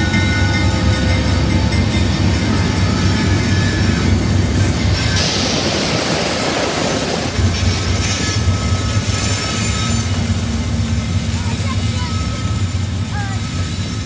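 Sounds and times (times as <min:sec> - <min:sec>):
diesel locomotive engine drone: 0:00.0 - 0:14.0
wheels rumbling on rails: 0:00.0 - 0:14.0.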